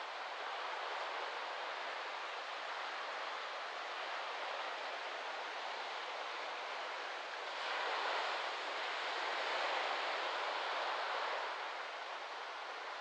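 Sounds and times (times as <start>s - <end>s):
small waves washing on beach: 0.0s - 13.0s
wind in palm fronds: 0.0s - 13.0s.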